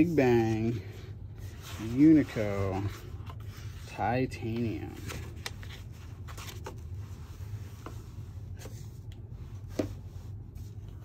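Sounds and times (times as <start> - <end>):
box and paper packaging handled: 0.7 - 11.0.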